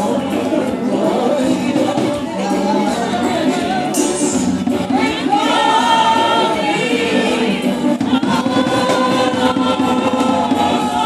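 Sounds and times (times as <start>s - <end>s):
woman singing into microphone: 0.0s - 11.0s
women singing in chorus: 0.0s - 11.0s.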